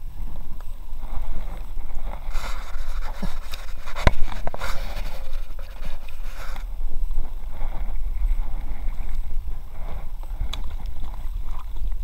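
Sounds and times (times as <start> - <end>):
hull rubbing and rustling: 0.0 - 12.0
water splashing: 0.0 - 12.0.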